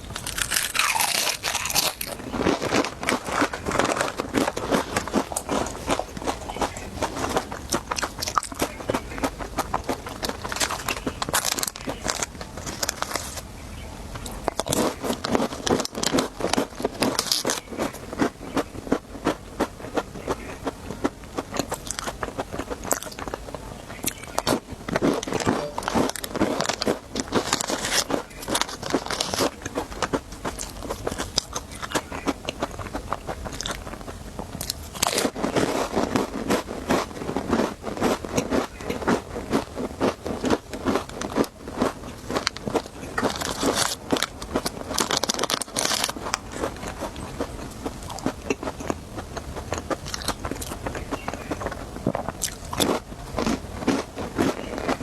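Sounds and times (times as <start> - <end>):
chewing crunchy snacks: 0.0 - 55.0.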